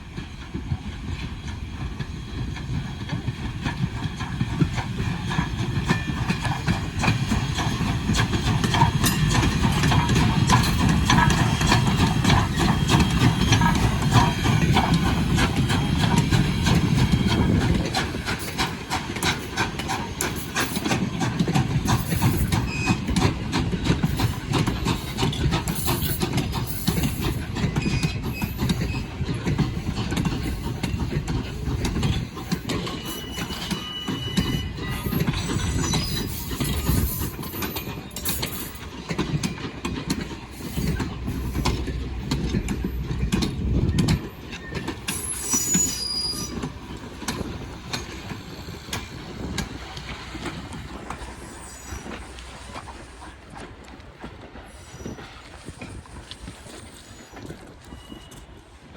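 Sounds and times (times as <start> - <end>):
train wheels clicking over rails: 0.0 - 58.9.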